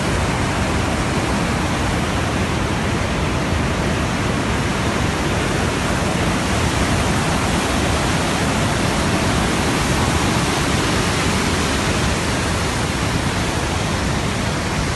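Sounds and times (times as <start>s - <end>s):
fast-flowing water rushing: 0.0s - 14.9s.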